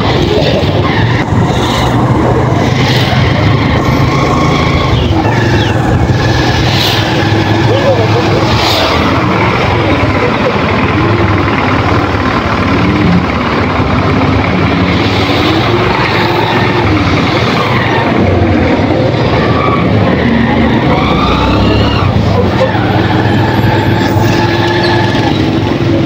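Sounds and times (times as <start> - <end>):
motorcycle engine running: 0.0 - 26.0
road noise rushing: 0.0 - 26.0.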